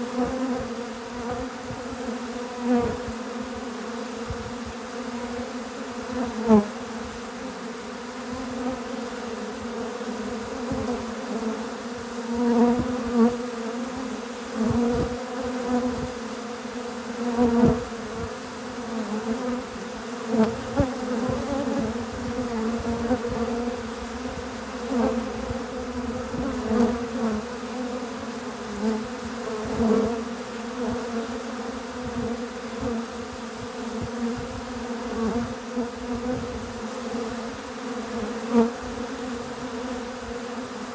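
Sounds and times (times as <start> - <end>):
bees buzzing in dense hum: 0.0 - 40.9
single bee buzzing past: 0.0 - 40.9.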